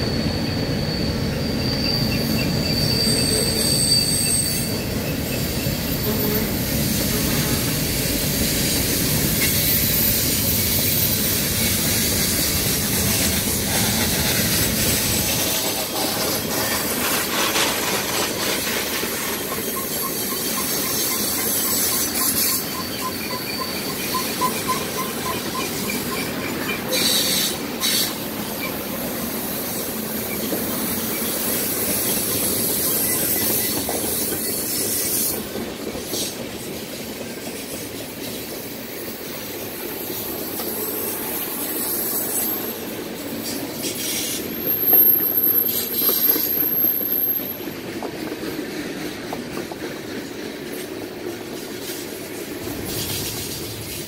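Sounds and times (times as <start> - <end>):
high wheel squeal: 0.0 - 35.5, 40.0 - 47.8
freight train wheels rumbling: 0.0 - 54.0.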